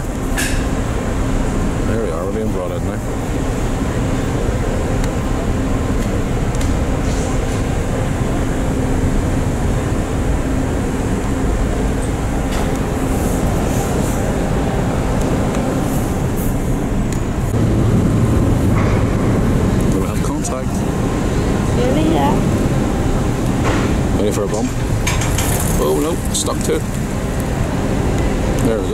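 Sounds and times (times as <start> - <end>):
ship engines rumbling: 0.0 - 28.9.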